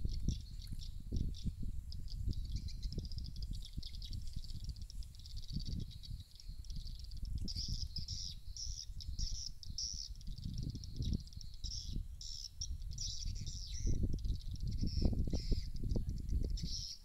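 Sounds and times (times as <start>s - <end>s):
swiftlet chirping calls: 0.0s - 17.0s
wind rumbling on microphone: 0.0s - 17.0s.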